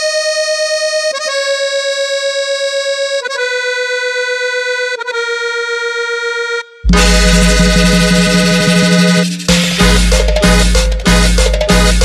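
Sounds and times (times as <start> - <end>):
accordion lead melody: 0.0 - 12.0.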